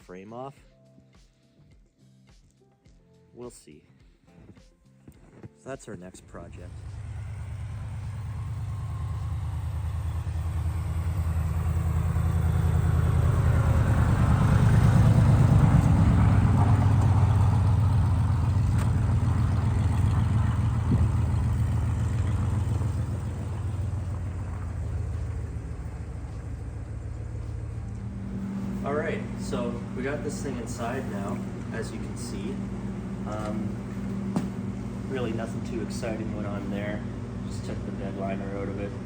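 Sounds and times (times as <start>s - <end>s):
pickup truck engine running: 6.3s - 39.0s.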